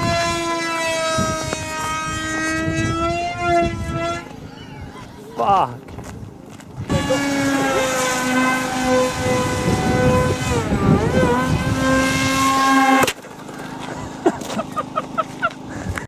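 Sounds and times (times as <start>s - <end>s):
model aircraft motor whine: 0.0s - 4.3s, 6.8s - 16.0s.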